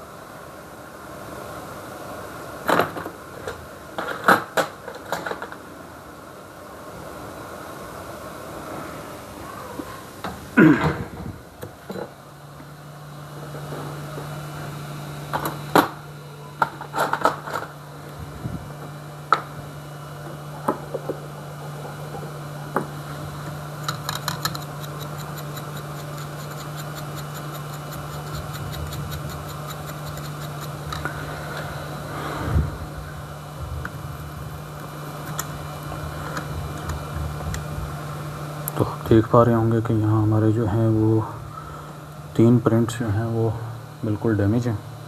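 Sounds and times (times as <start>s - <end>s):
hot air blower humming: 0.0s - 45.0s.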